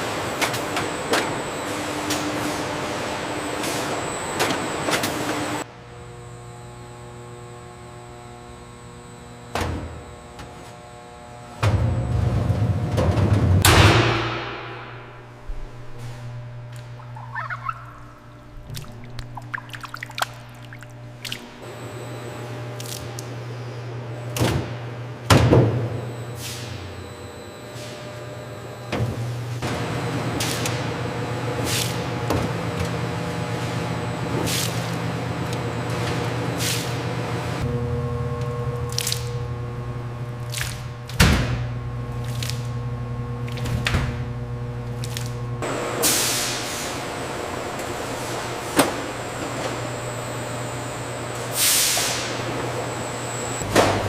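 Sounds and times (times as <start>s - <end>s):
machine hum: 0.0s - 34.4s, 35.0s - 54.0s.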